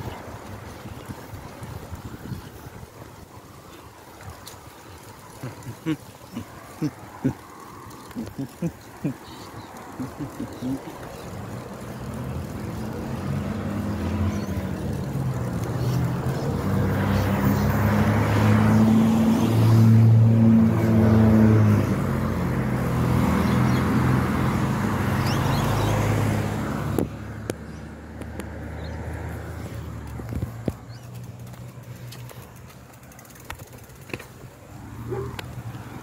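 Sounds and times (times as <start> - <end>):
vehicle engine hum: 0.0 - 36.0.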